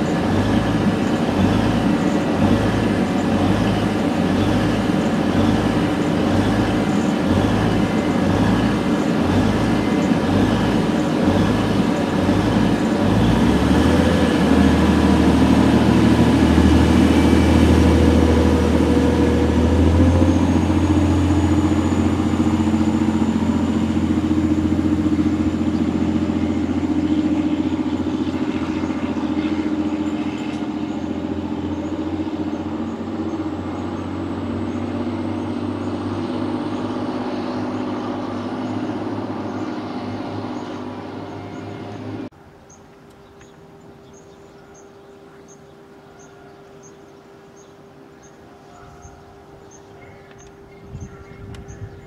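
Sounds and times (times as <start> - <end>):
train diesel engines throbbing: 0.0 - 42.6, 43.4 - 52.0.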